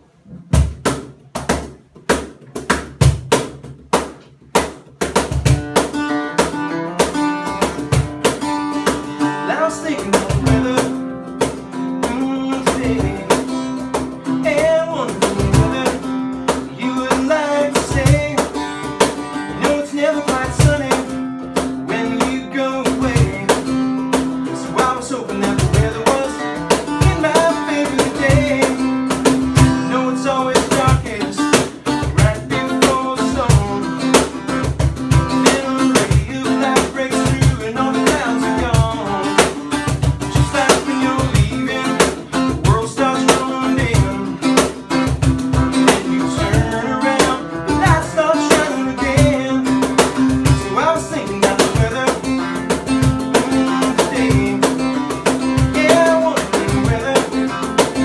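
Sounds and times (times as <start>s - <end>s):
acoustic guitar strumming: 0.0s - 58.0s
man singing: 8.8s - 58.0s.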